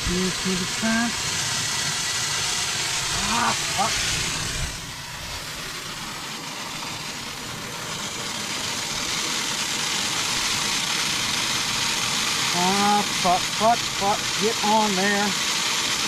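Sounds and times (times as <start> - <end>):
water hissing from faucet: 0.0 - 16.0.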